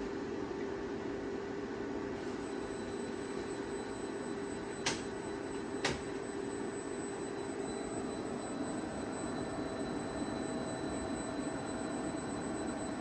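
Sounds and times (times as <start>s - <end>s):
inverter hum with high whine: 0.0s - 13.0s.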